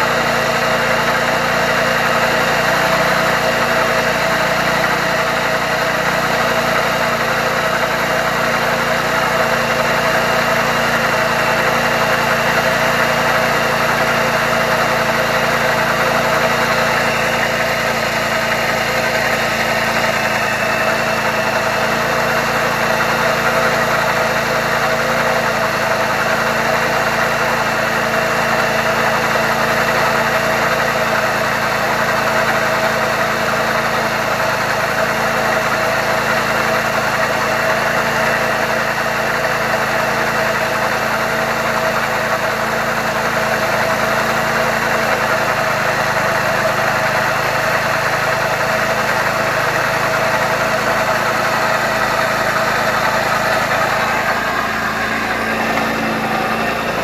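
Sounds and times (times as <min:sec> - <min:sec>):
scooter engine idling: 0:00.0 - 0:57.0.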